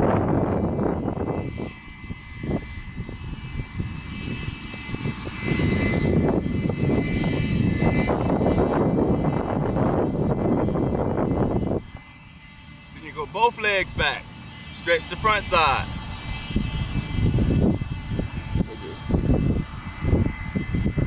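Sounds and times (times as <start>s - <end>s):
steady high-pitched hum: 0.0s - 21.0s
wind buffeting microphone: 0.0s - 21.0s.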